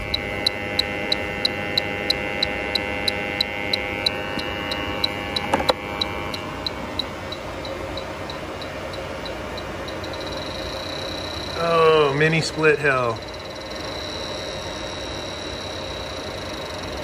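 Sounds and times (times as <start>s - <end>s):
leak detector ticking: 0.0s - 17.0s
steady hum: 0.0s - 17.0s.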